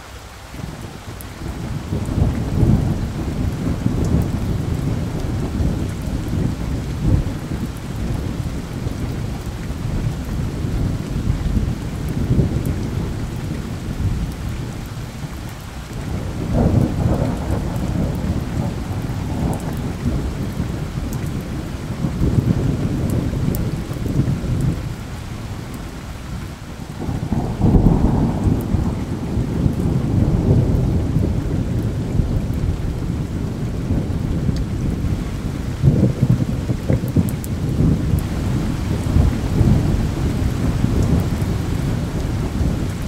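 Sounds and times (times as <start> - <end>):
steady rain: 0.0 - 43.0
thunder rumbling: 0.6 - 43.0.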